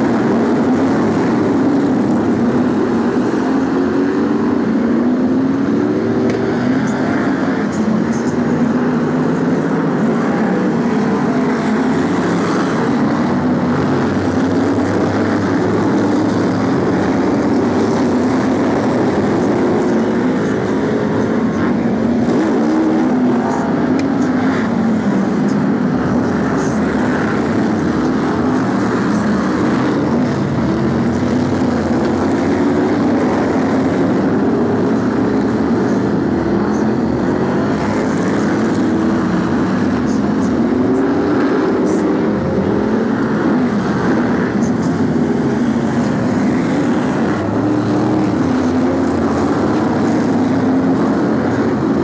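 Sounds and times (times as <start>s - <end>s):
massed race car engines: 0.0s - 52.0s.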